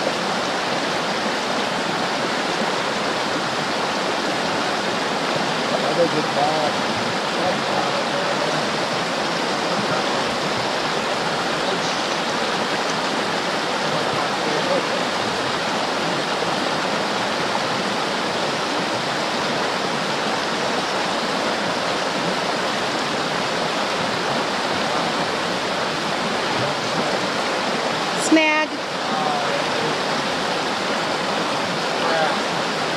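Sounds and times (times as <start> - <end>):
creek rushing over rocks: 0.0 - 32.9.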